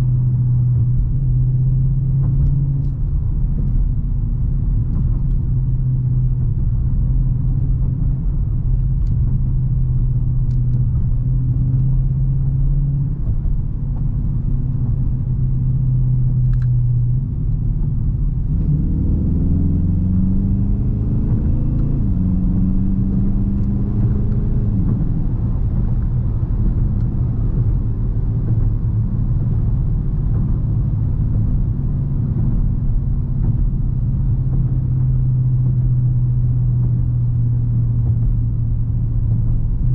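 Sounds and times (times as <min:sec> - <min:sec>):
car engine drone: 0:00.0 - 0:39.9
tyre and road noise: 0:00.0 - 0:39.9.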